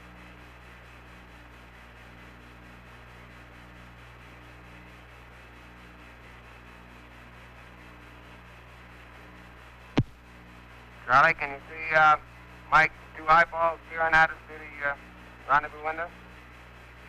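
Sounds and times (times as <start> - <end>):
radio static hiss and hum: 0.1 - 17.0.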